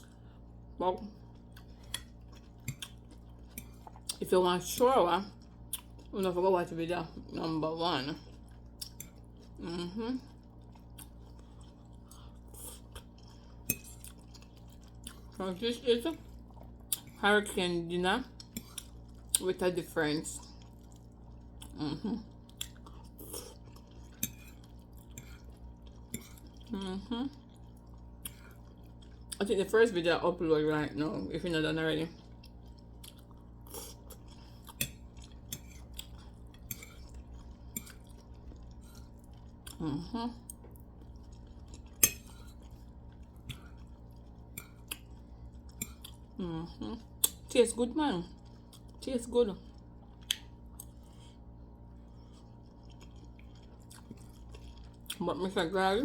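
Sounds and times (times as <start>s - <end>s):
person chewing food: 0.0s - 4.2s, 5.2s - 6.3s, 8.1s - 15.4s, 16.1s - 17.2s, 18.3s - 19.4s, 20.4s - 29.4s, 32.2s - 47.5s, 48.3s - 49.0s, 49.6s - 55.2s.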